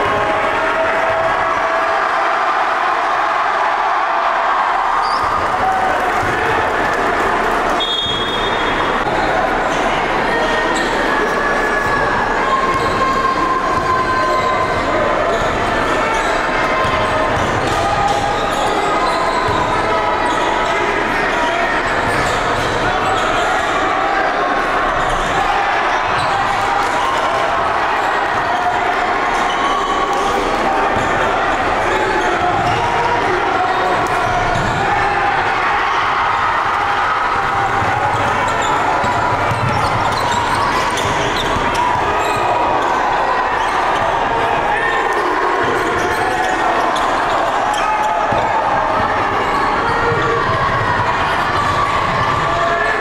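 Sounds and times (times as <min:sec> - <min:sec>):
crowd voices din: 0:00.0 - 0:53.0
sneakers squeaking: 0:05.0 - 0:06.4, 0:07.4 - 0:23.9, 0:24.6 - 0:52.5.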